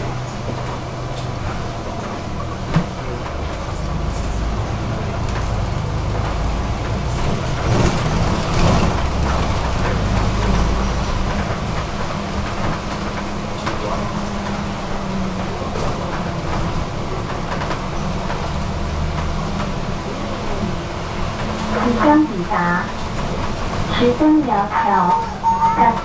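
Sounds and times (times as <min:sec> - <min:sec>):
bus engine running: 0:00.0 - 0:26.0
road noise: 0:00.0 - 0:26.0.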